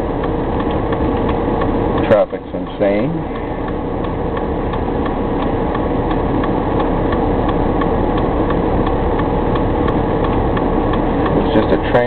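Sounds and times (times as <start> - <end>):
car engine hum: 0.0 - 12.0
turn signal ticking: 0.0 - 12.0.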